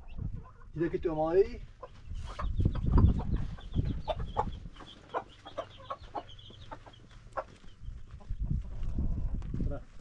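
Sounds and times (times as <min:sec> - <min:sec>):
chickens clucking: 0:00.0 - 0:09.6.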